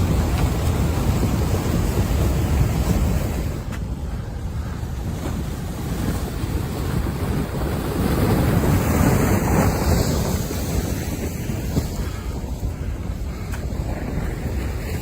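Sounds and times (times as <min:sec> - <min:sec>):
waves breaking: 0:00.0 - 0:15.0
wind buffeting microphone: 0:00.0 - 0:15.0.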